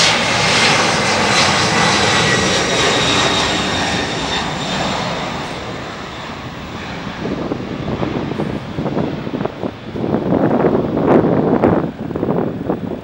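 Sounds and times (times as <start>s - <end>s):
high jet whine: 0.0s - 13.0s
jet engines roaring at takeoff: 0.0s - 13.0s.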